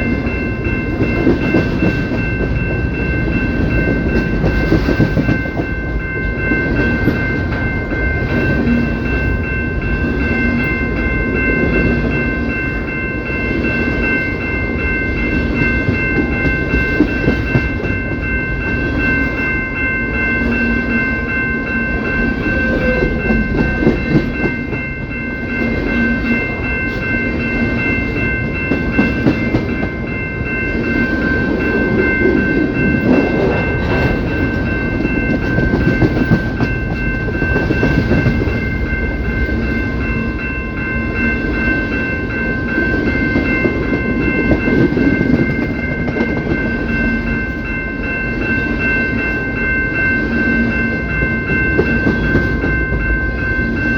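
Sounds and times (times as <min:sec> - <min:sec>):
high-pitched ringing tones: 0:00.0 - 0:53.9
train wheels rumbling on rails: 0:00.0 - 0:53.9.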